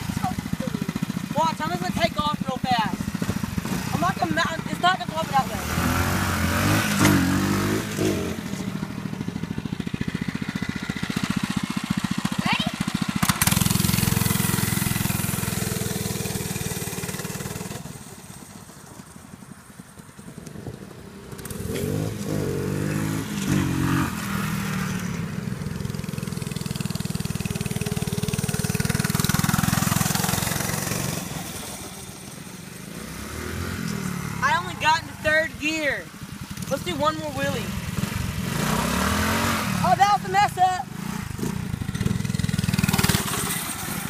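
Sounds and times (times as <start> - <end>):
small motorbike engines revving: 0.0 - 44.0.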